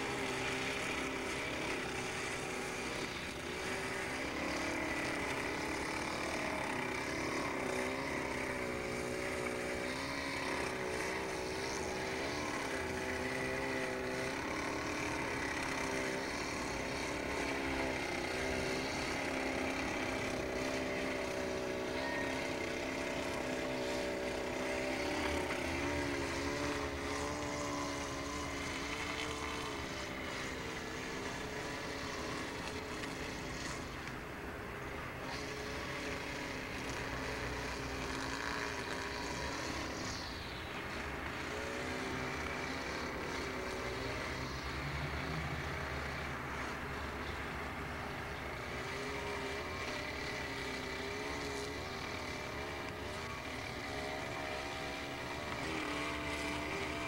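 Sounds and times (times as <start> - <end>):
motor-like drone: 0.0 - 57.0.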